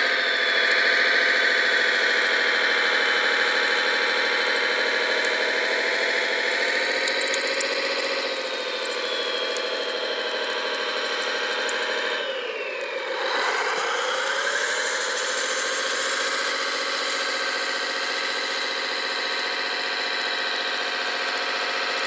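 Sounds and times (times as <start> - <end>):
model dozer engine drone: 0.0 - 22.0.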